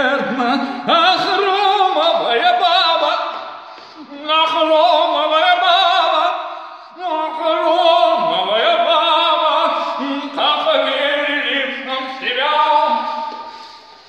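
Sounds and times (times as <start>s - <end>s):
man singing with vibrato: 0.0s - 14.0s.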